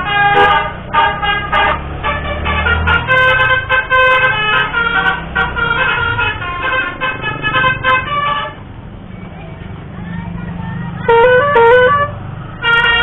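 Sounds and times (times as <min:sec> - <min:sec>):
vehicle musical horn melody: 0:00.0 - 0:08.6, 0:11.0 - 0:13.0
engine running low: 0:00.0 - 0:13.0.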